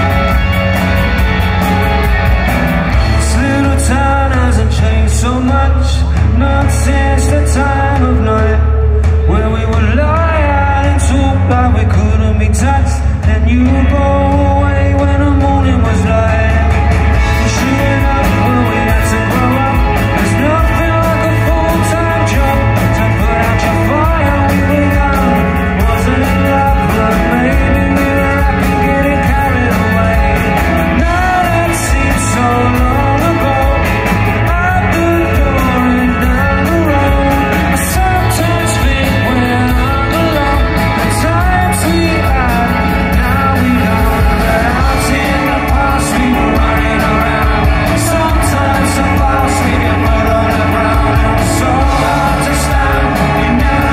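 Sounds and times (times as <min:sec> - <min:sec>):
bass guitar: 0:00.0 - 0:53.9
drums: 0:00.0 - 0:53.9
electric guitars: 0:00.0 - 0:53.9
man singing lead vocal: 0:00.0 - 0:53.9.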